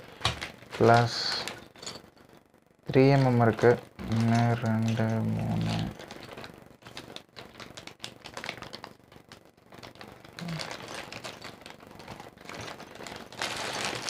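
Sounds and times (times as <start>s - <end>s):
plastic bag crinkling: 0.0s - 2.0s, 4.0s - 14.0s.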